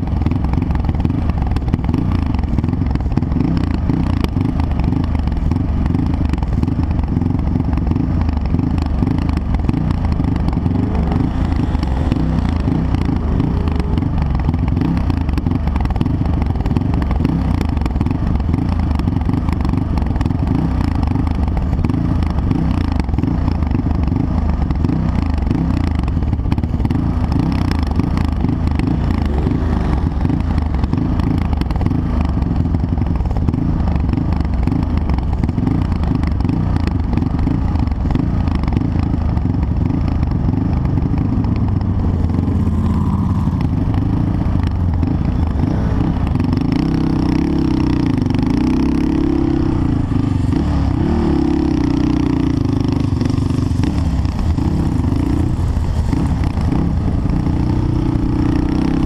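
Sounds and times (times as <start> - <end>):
vehicle engine idling: 0.0 - 58.9.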